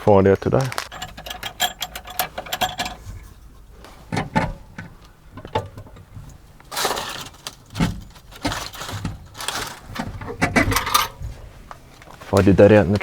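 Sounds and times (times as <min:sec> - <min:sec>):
hard objects clicking and rattling: 0:00.6 - 0:12.2.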